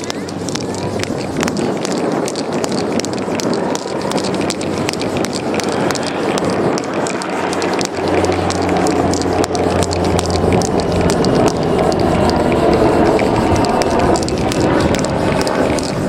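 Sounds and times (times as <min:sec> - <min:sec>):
low steady hum: 0:00.0 - 0:16.0
outdoor background noise: 0:00.0 - 0:16.0
spray paint can hissing: 0:00.0 - 0:16.0.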